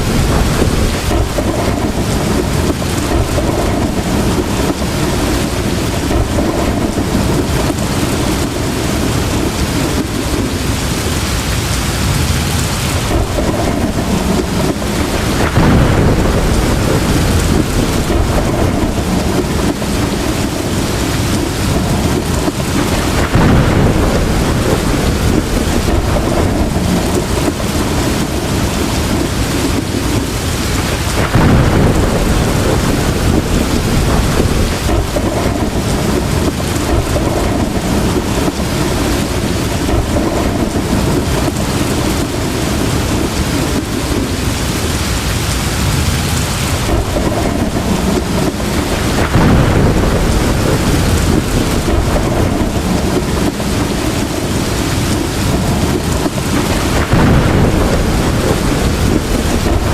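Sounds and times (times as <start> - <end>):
heavy rain falling: 0.0 - 59.9
thunder: 0.0 - 59.9.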